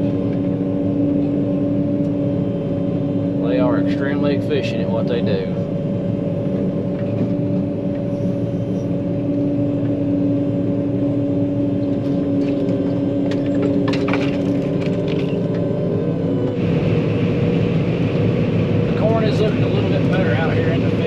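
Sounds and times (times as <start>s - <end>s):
combine harvester engine hum: 0.0s - 21.0s.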